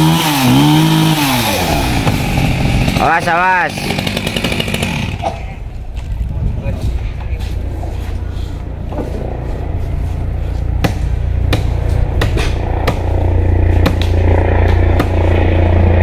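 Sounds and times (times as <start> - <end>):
engine running low: 0.0 - 16.0.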